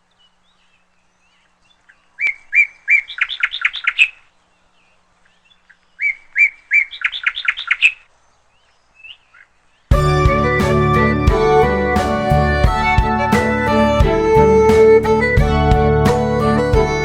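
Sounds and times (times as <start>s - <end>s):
small bird singing: 0.0s - 15.5s.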